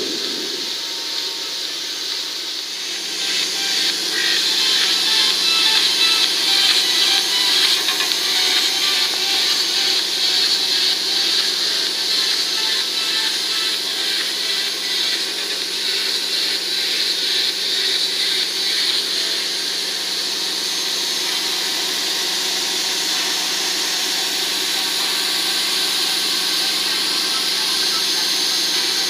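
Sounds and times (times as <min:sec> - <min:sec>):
small motor fan whine: 0:00.0 - 0:29.0.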